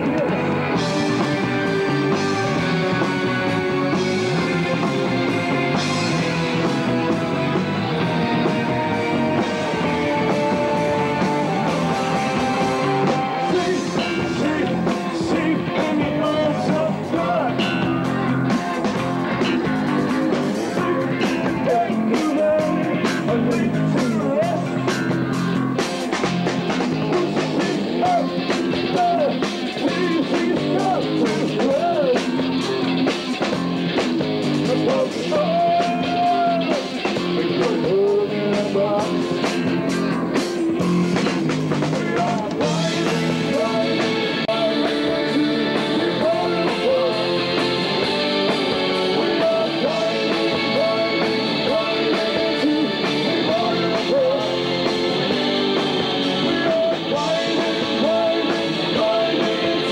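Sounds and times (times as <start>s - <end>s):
bending electric guitar lead: 0.0s - 59.9s
live rock band playing: 0.0s - 59.9s.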